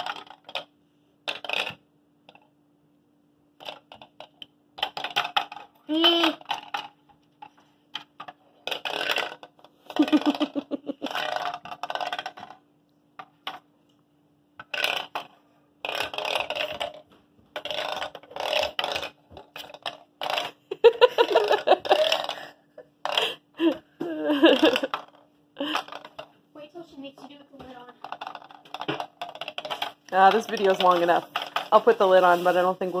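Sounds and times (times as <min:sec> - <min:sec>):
marble rattling in maze: 0:00.0 - 0:02.4, 0:03.6 - 0:12.6, 0:14.6 - 0:23.4, 0:24.3 - 0:26.4, 0:27.2 - 0:33.0.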